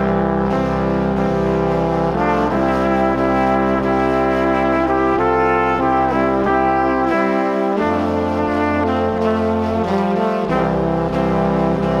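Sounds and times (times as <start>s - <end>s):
slow melody over held chords: 0.0s - 12.0s.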